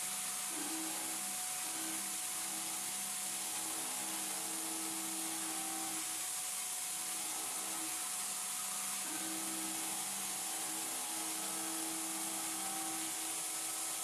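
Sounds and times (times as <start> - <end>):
milling machine cutting hiss: 0.0 - 14.0.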